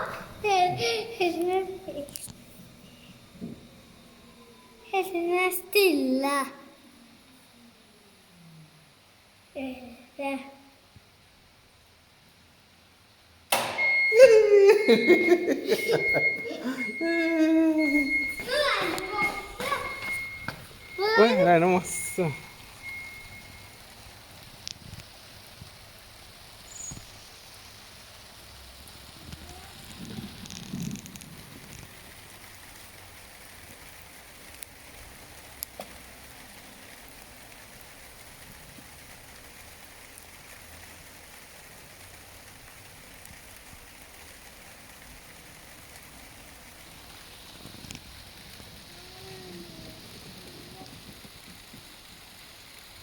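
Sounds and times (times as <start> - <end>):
water pattering hiss: 0.0 - 13.2, 14.2 - 53.0.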